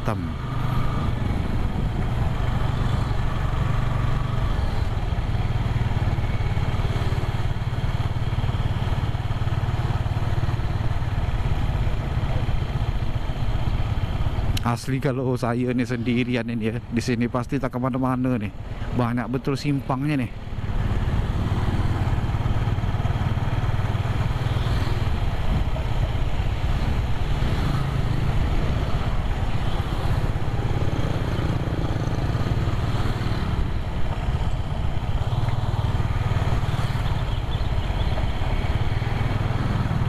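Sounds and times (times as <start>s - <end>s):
wind and road noise: 0.0s - 40.0s
motorcycle engine running: 0.3s - 14.6s, 20.3s - 40.0s.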